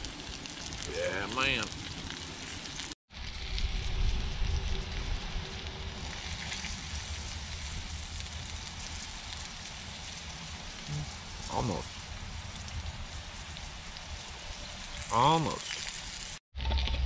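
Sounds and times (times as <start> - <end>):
food sizzling in a skillet: 0.0 - 16.4
fire crackling: 0.0 - 17.0.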